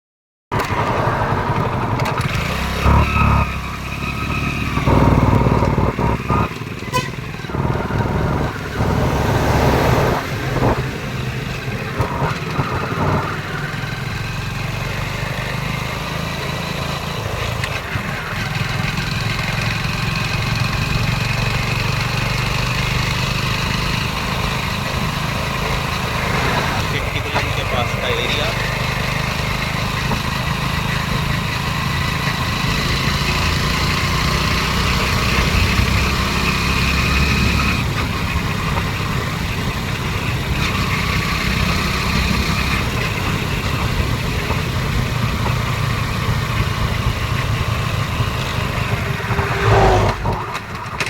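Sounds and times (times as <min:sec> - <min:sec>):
low traffic rumble: 0:00.6 - 0:51.0
vehicles passing: 0:00.6 - 0:51.0.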